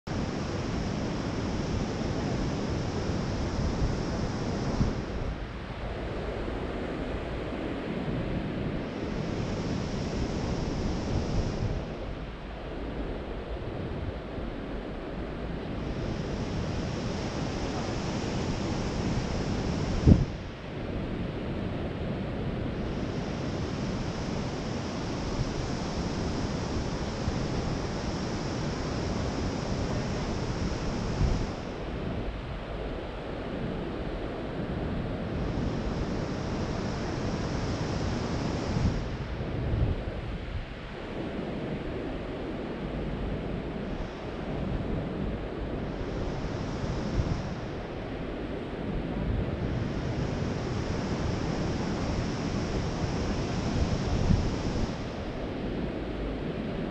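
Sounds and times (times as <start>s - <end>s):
wind buffeting microphone: 0.1s - 56.9s.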